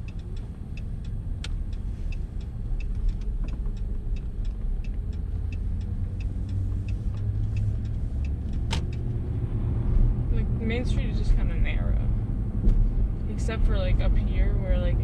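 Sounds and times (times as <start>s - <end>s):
engine and tyres rumbling: 0.0s - 15.0s
turn signal clicking: 0.0s - 15.0s.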